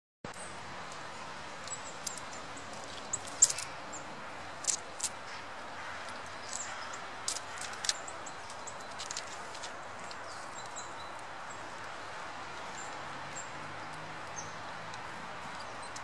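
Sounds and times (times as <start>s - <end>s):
small birds calling: 0.3s - 16.0s
squirrel clicks and scrabbling: 0.3s - 16.0s.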